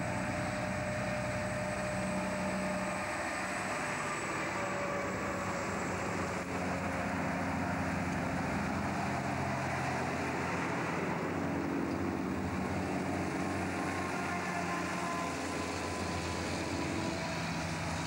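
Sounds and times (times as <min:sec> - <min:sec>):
diesel trucks passing: 0:00.0 - 0:18.0.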